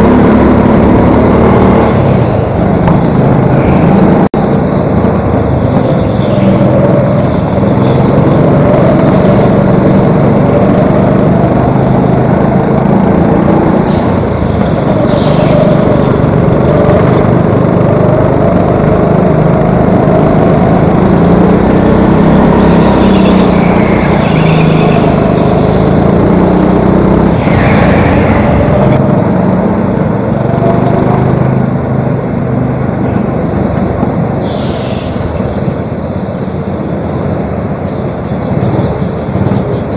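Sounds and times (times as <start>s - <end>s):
go-kart engine revving: 0.0s - 39.9s
other karts running: 0.0s - 39.9s.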